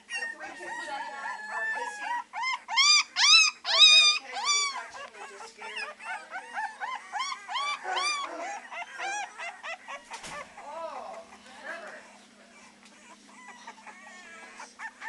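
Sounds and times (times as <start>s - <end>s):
puppies baying: 0.0s - 15.0s.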